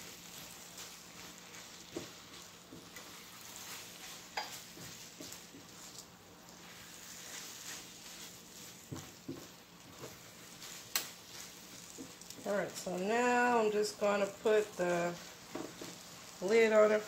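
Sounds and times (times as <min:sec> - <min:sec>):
faint sizzle: 0:00.0 - 0:17.0
spatula scraping frying pan: 0:00.0 - 0:17.0.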